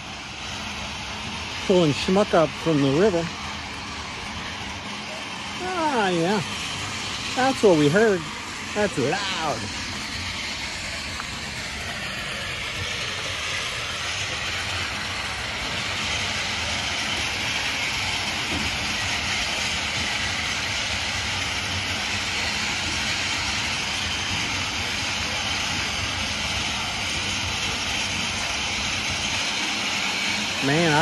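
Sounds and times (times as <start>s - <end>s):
conveyor belt running: 0.0s - 31.0s.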